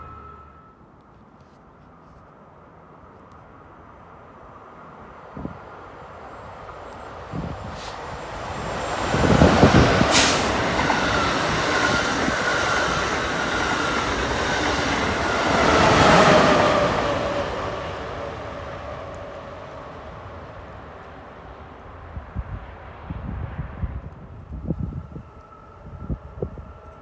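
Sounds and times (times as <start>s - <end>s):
train passing at speed: 0.0s - 1.0s, 3.6s - 27.0s.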